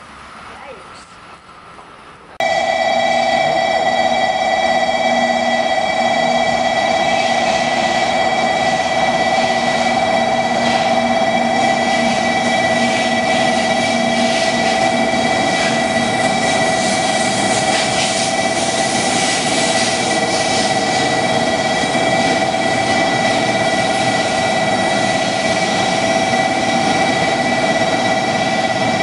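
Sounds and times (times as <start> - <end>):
train rolling rushing noise: 0.0 - 29.0
held whining tones: 2.4 - 29.0.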